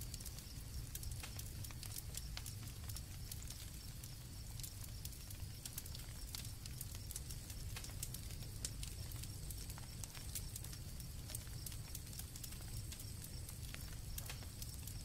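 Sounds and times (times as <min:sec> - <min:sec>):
campfire crackling: 0:00.0 - 0:15.0
crickets chirring: 0:00.0 - 0:15.0.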